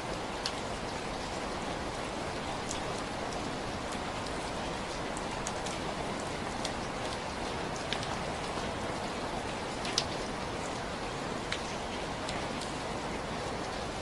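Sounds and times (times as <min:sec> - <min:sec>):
raindrops ticking on a surface: 0:00.0 - 0:14.0
steady rain hiss: 0:00.0 - 0:14.0.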